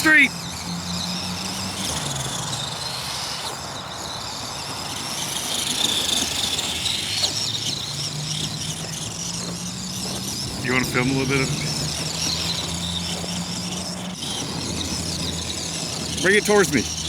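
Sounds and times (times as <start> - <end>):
electric motor and gears whining: 0.0 - 17.0.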